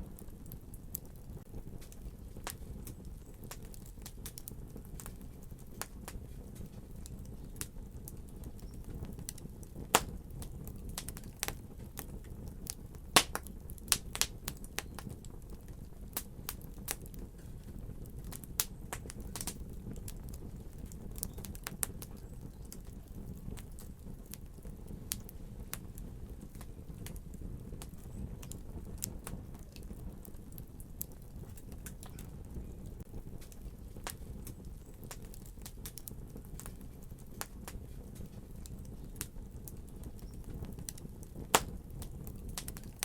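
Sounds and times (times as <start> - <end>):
fire crackling and popping: 0.0 - 43.0.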